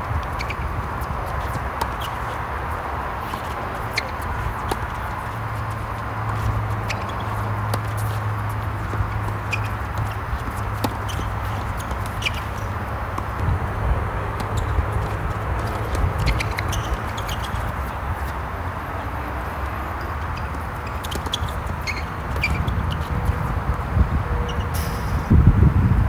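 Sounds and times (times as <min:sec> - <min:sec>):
tennis balls struck and bouncing: 0:00.0 - 0:23.7.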